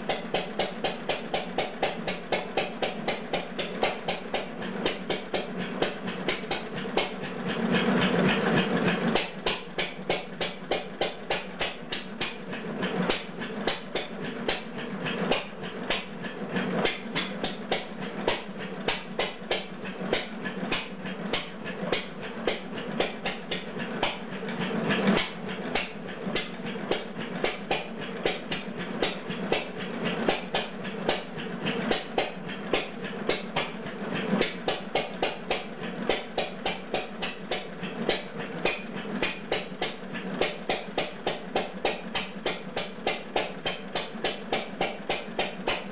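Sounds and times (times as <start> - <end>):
stationary gas engine clattering: 0.0 - 45.9.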